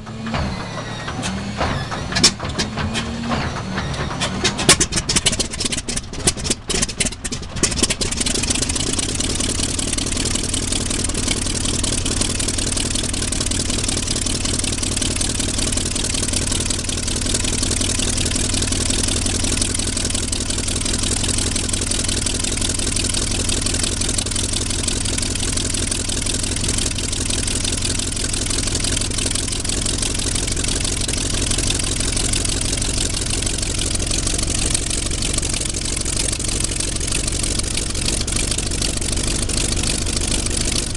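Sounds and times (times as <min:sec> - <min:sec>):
aircraft piston engine idling: 0:01.3 - 0:40.9.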